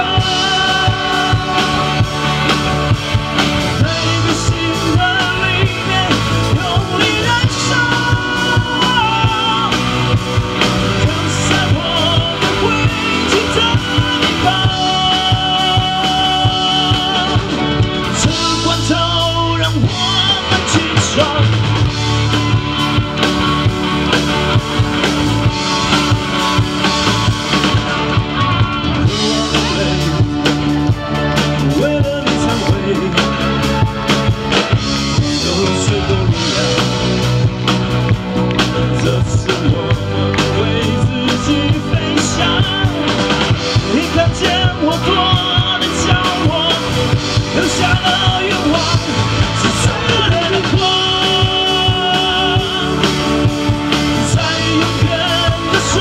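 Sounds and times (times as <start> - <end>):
man singing into a microphone: 0.0 - 3.0, 3.6 - 22.0, 28.3 - 33.9, 35.1 - 37.4, 38.7 - 56.0
rock band playing: 0.0 - 56.0.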